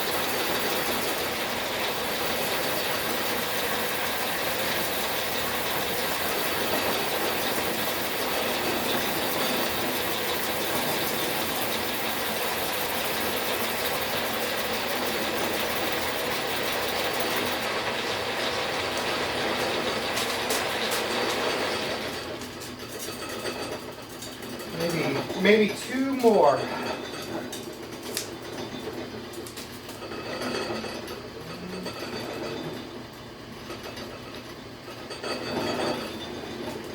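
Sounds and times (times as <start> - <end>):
metal lathe mechanical clatter: 0.0 - 32.9.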